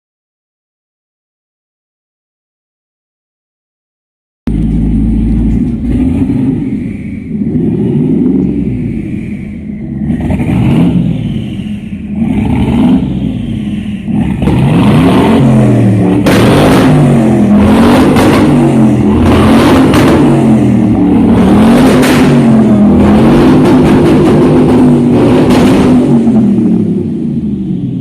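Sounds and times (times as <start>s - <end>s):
car engine revving: 4.5s - 28.0s.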